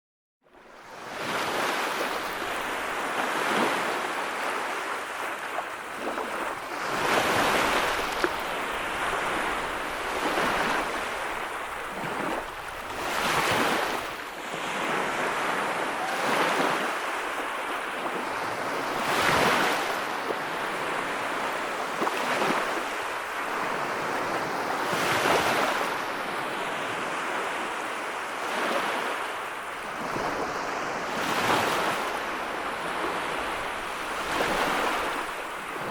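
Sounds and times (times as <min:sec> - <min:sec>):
sea waves breaking: 0:00.8 - 0:35.9.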